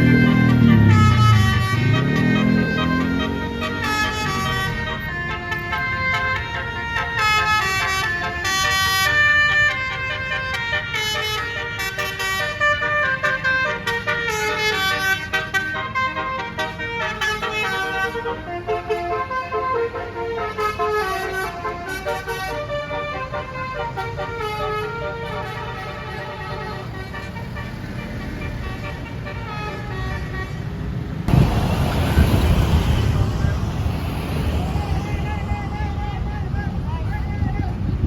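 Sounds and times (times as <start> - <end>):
multi-note bus horn tune: 0.0 - 34.2
low road rumble: 0.0 - 38.0.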